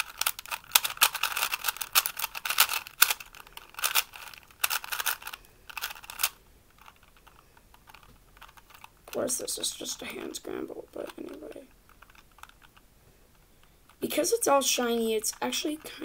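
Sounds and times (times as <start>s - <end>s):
puzzle cube clicking as turned: 0.0s - 14.0s.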